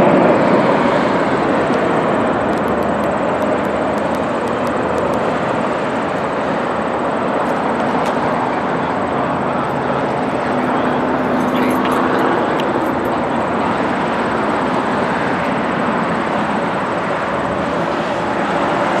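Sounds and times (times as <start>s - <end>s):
jet roar: 0.0s - 19.0s.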